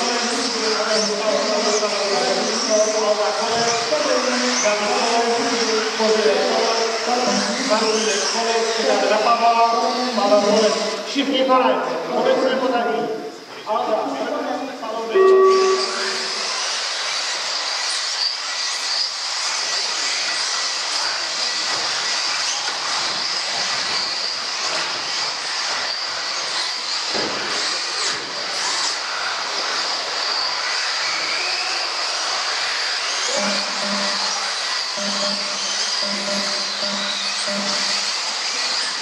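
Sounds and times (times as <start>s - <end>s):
electric motor whine: 0.0s - 11.1s, 15.2s - 39.0s.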